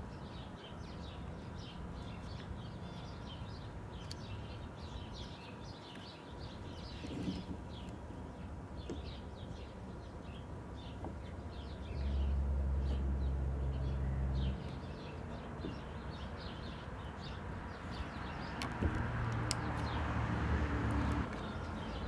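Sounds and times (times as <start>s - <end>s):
small birds chirping: 0.1s - 22.0s.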